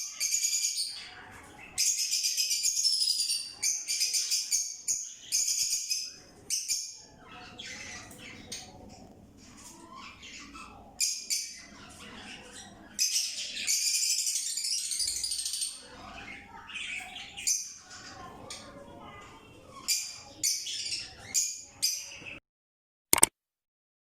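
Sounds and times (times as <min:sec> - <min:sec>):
parrots chattering and squawking: 0:00.0 - 0:22.4.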